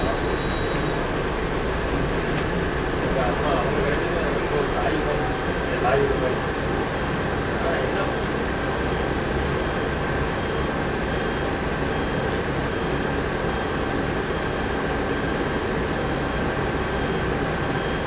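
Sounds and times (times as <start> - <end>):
diesel bus engine rumble: 0.0 - 18.0.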